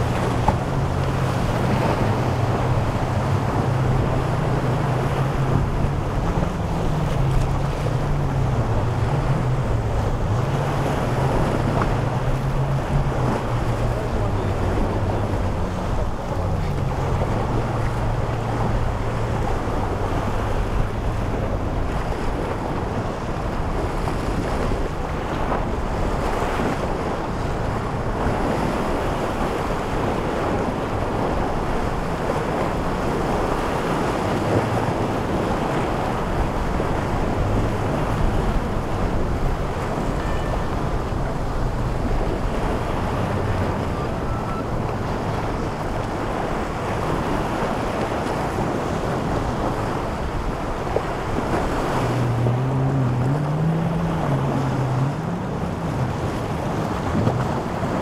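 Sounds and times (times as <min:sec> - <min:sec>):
boat engines droning: 0:00.0 - 0:58.0
surf and waves: 0:00.0 - 0:58.0
wind buffeting microphone: 0:00.0 - 0:58.0.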